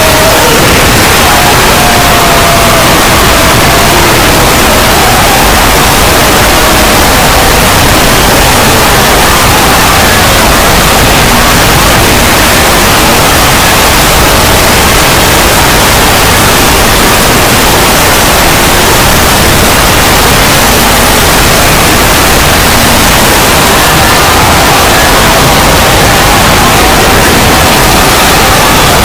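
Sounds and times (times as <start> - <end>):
distorted static noise: 0.0 - 29.0.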